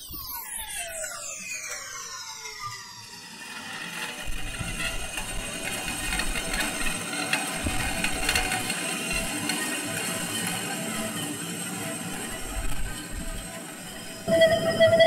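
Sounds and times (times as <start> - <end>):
electronic machine-like rattling: 1.3 - 15.0.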